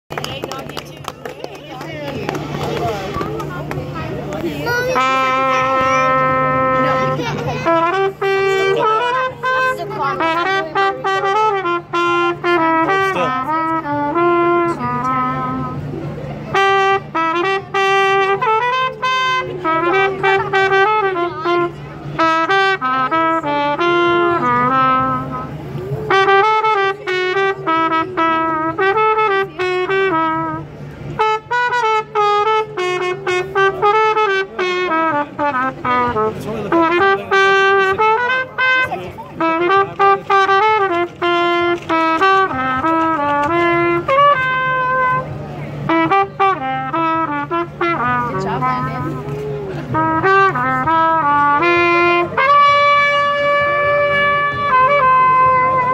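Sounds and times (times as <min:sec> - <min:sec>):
low steady hum: 0:00.2 - 0:55.9
solo trumpet melody: 0:04.6 - 0:55.9.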